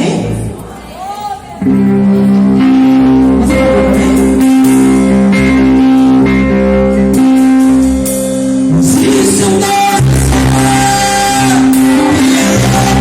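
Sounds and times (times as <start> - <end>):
guitar: 0.0 - 13.0
worship band playing: 0.0 - 13.0.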